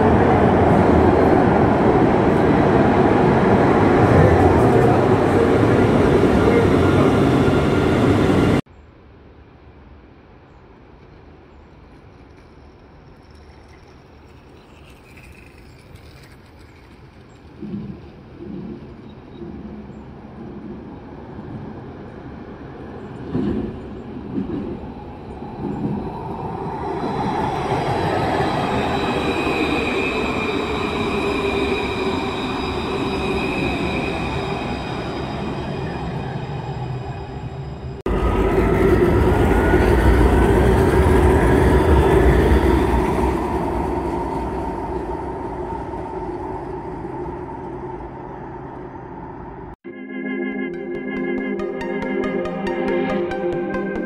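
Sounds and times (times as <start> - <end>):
tram passing: 0.0 - 54.0.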